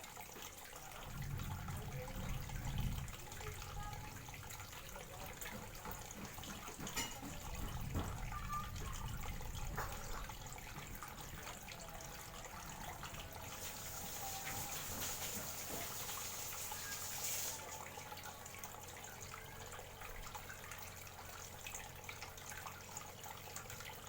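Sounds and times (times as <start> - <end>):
water trickling and dripping: 0.0 - 24.0.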